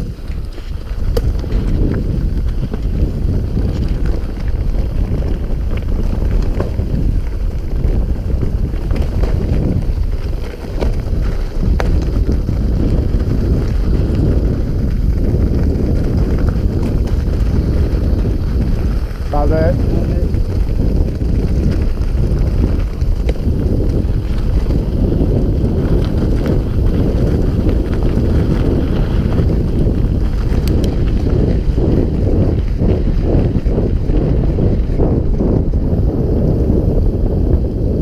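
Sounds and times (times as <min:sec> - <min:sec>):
tyres rumbling over dirt: 0:00.0 - 0:38.0
wind buffeting microphone: 0:00.0 - 0:38.0.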